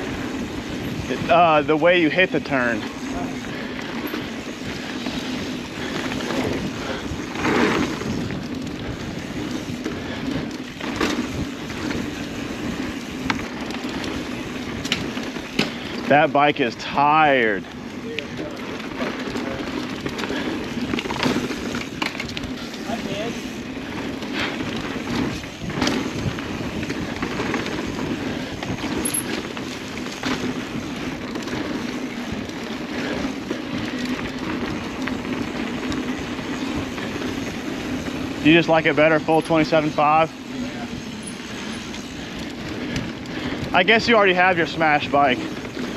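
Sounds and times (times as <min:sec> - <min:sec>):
bike clacking over bumps: 0:00.0 - 0:45.9
bike tyres on dirt trail: 0:00.0 - 0:45.9.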